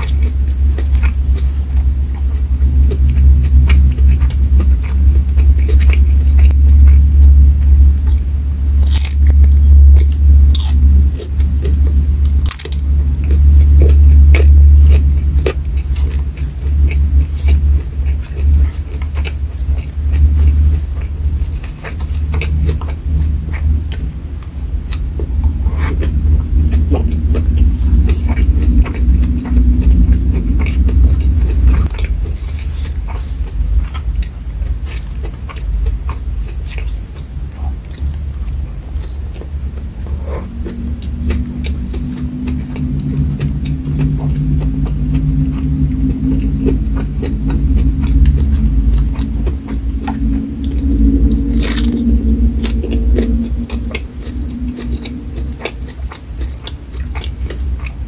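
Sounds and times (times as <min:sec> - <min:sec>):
chewing and biting food: 0:00.0 - 0:58.0
food crunching: 0:00.0 - 0:58.0
wet mouth sounds: 0:00.0 - 0:58.0.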